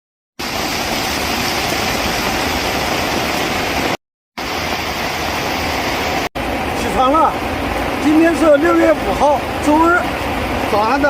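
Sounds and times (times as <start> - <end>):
heavy rain pouring: 0.4 - 11.0.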